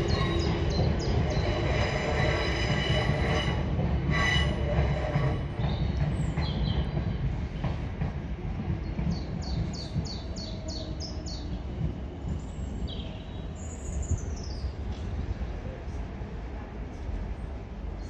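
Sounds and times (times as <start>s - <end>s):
distant train rumbling past: 0.0s - 18.0s.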